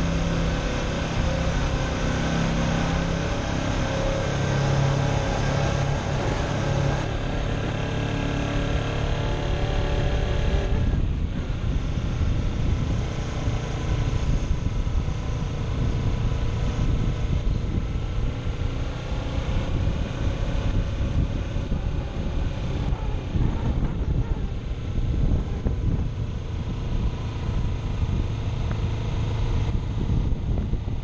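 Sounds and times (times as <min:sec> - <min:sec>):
motorcycle engine running: 0:00.0 - 0:31.0
wind and road rush: 0:00.0 - 0:31.0.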